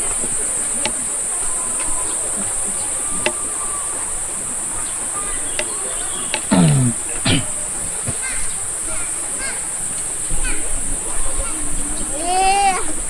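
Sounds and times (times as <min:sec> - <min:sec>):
faint clicks: 0:00.0 - 0:13.0
high-pitched insect chorus: 0:00.0 - 0:13.0.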